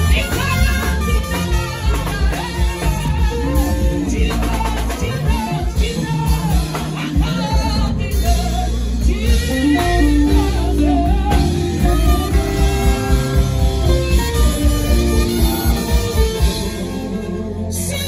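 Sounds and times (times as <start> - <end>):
woman singing gospel: 0.0 - 14.1, 16.1 - 18.0
live band playing: 0.0 - 18.0.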